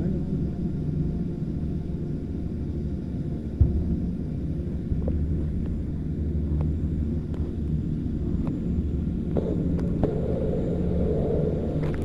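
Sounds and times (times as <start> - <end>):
chairlift machinery rumble and hum: 0.0 - 12.0.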